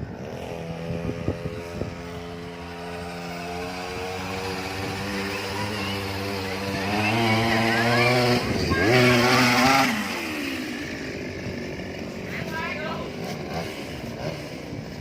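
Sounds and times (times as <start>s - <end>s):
small engine revving: 0.0s - 15.0s.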